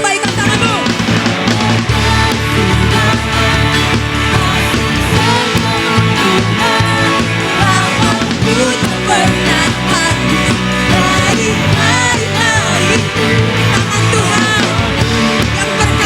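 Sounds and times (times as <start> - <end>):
electric guitar: 0.0 - 16.0
rock band playing: 0.0 - 16.0.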